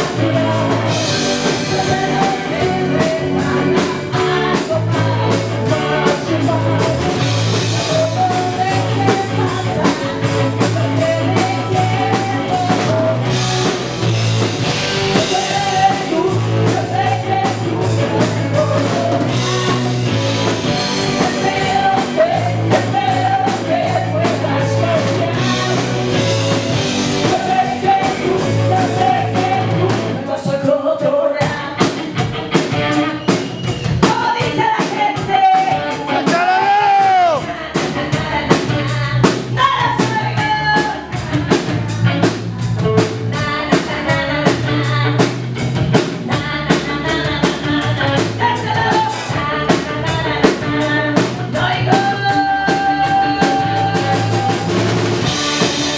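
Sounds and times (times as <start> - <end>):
person singing: 0.0 - 13.8, 15.1 - 32.3, 34.0 - 42.3, 46.2 - 55.9
bass guitar: 0.0 - 55.9
drum kit: 0.0 - 55.9
electric guitar: 0.0 - 55.9.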